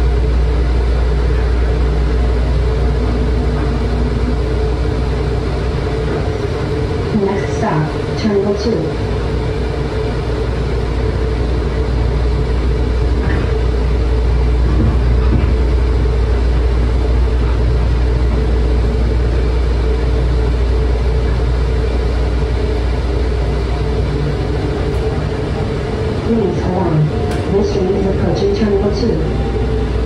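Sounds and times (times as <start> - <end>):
train rumble and hum: 0.0 - 30.0.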